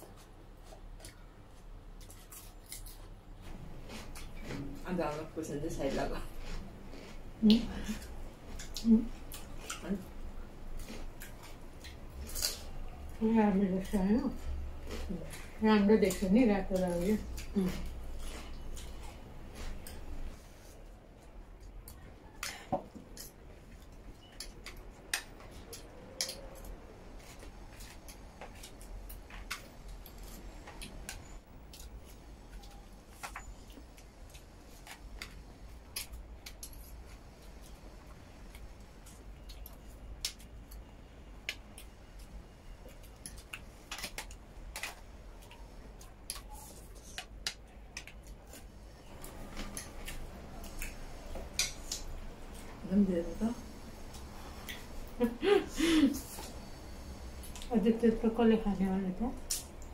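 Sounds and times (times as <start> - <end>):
eating and chewing: 0.0 - 57.8.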